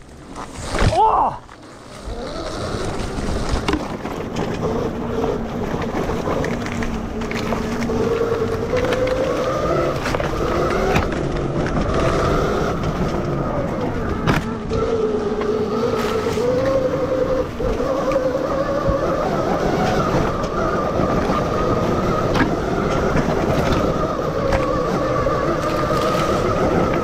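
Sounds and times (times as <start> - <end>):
motorcycle rattling over dirt: 0.0 - 27.0
electric motor whining: 1.7 - 27.0.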